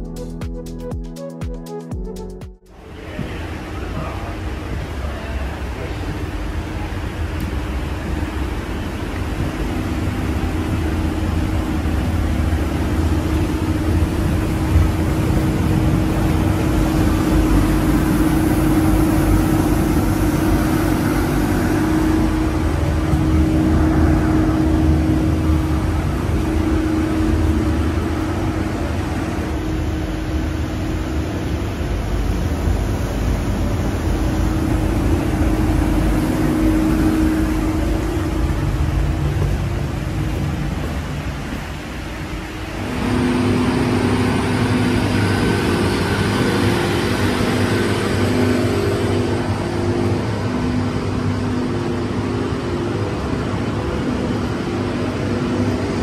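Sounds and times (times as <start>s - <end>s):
train equipment humming: 0.0s - 56.0s.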